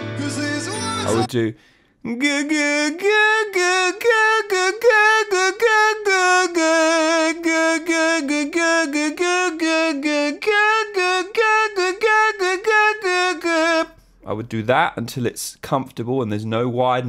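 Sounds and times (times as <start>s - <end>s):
man singing vocal exercise: 0.0s - 14.1s.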